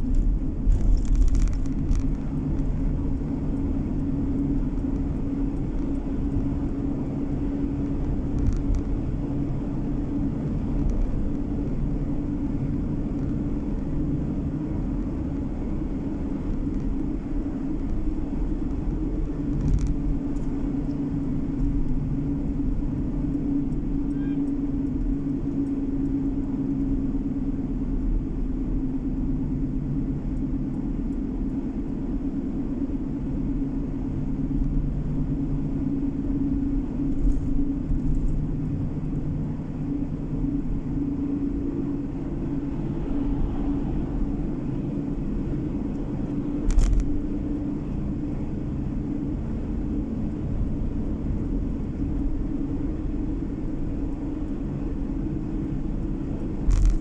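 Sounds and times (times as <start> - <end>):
car engine and road hum: 0.0 - 57.0.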